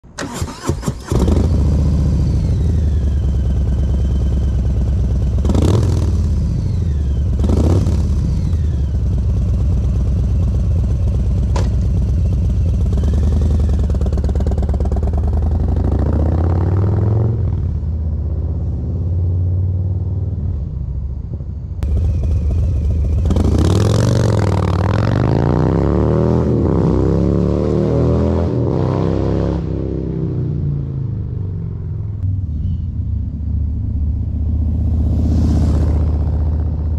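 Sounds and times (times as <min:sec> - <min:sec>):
motorcycle engine revving: 0:00.2 - 0:20.3, 0:21.8 - 0:36.9.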